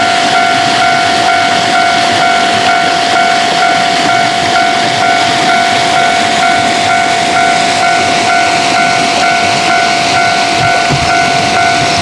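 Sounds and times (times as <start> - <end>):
level-crossing alarm bell: 0.0 - 12.0
steady alarm tone: 0.0 - 12.0.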